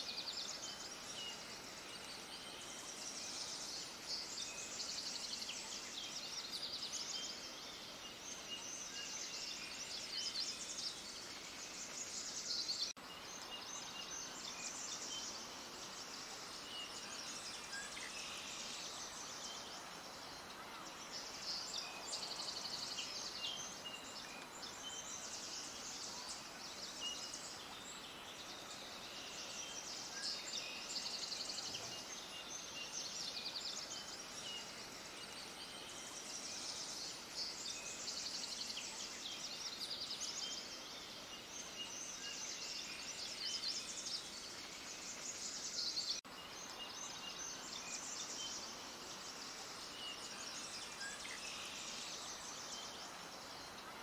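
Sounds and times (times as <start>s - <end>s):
background hiss: 0.0s - 54.0s
small birds chirping: 0.0s - 54.0s.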